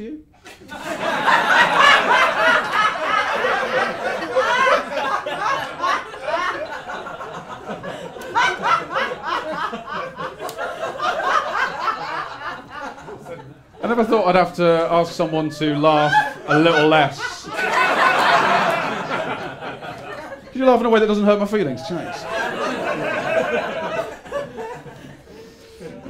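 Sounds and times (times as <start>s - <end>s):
audience laughing: 0.5s - 26.0s.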